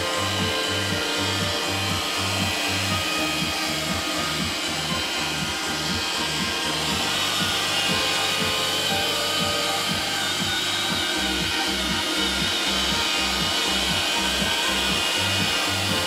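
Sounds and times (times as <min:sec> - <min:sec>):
music with repeating bass: 0:00.0 - 0:16.0
robot vacuum whirring: 0:00.0 - 0:16.0.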